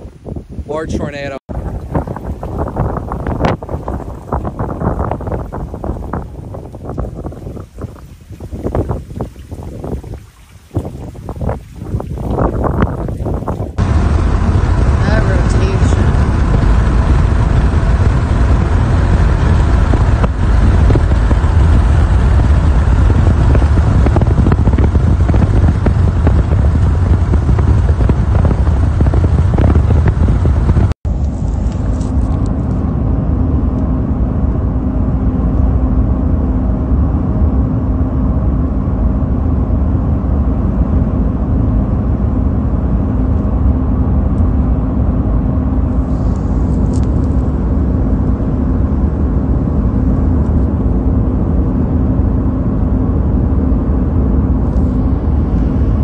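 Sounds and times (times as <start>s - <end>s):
vehicle drone with low hum: 0.0s - 56.0s
wind and road noise: 0.0s - 56.0s.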